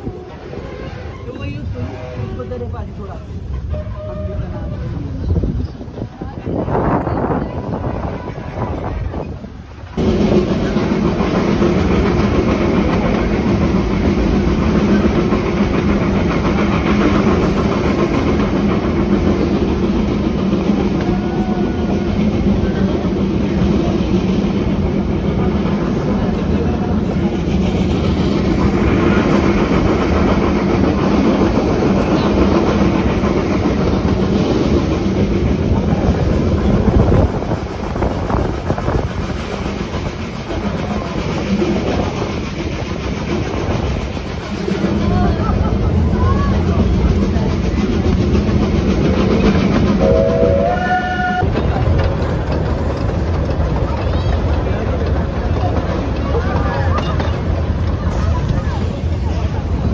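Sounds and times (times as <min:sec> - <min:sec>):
train wheels clattering on rails: 0:06.8 - 0:59.9.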